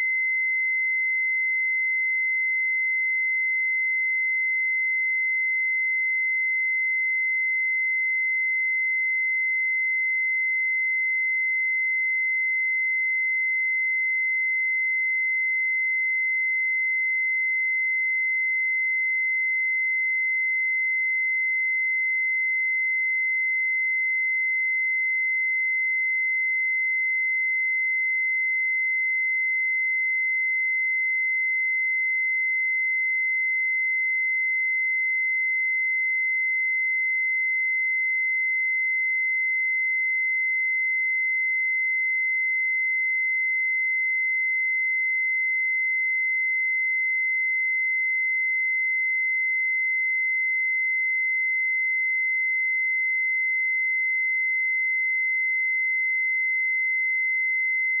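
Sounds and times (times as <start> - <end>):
sine-wave test tone: 0.0 - 58.0.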